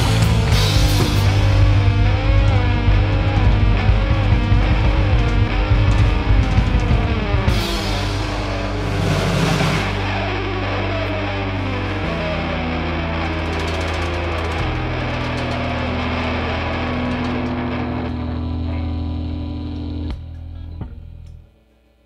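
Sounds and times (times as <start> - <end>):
distorted electric guitar chords: 0.0 - 21.6.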